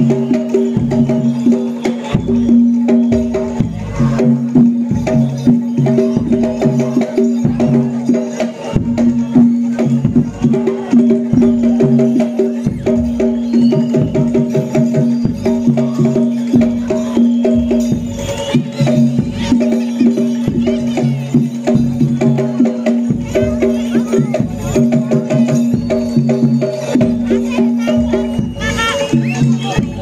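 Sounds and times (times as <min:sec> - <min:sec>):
hand drum strokes: 0:00.0 - 0:30.0.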